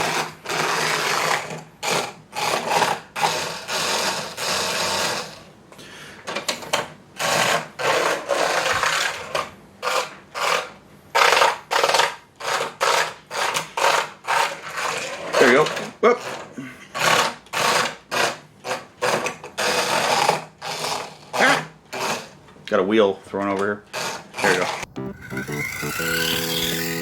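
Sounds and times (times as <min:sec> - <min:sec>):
toy car electric motor whirring: 0:00.0 - 0:05.5, 0:07.2 - 0:22.4, 0:23.9 - 0:27.0.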